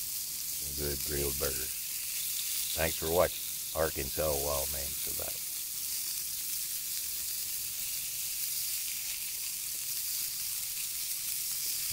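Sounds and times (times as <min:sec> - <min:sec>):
patties sizzling on a griddle: 0:00.0 - 0:11.9.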